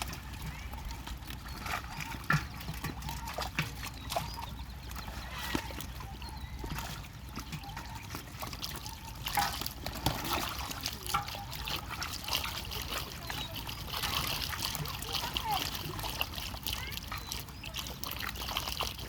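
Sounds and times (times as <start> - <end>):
pond water trickling and splashing: 0.0 - 19.0.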